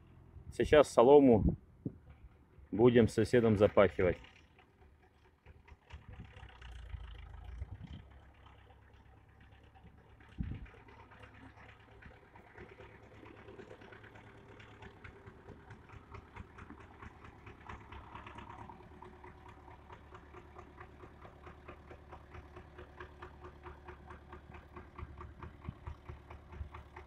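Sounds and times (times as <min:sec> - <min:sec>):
tractor diesel engine chugging: 0:00.0 - 0:27.0.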